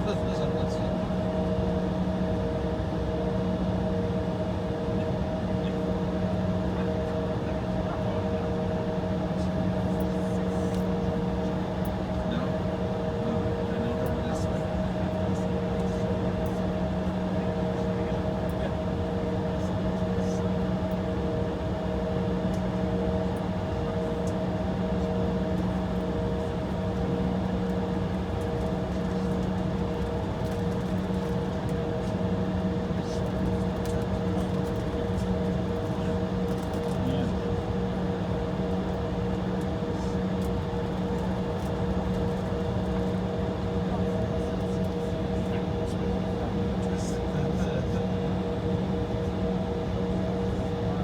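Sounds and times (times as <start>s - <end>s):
jet engines idling: 0.0s - 51.0s.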